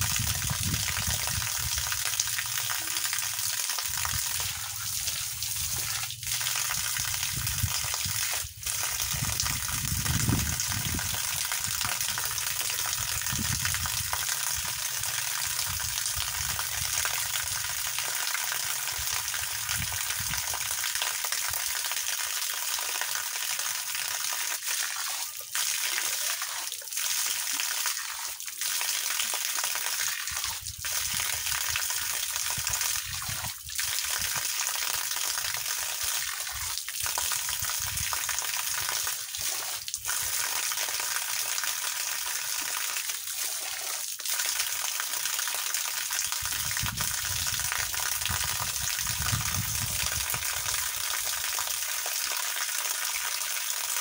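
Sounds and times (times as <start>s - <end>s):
water from hose splashing: 0.0s - 54.0s.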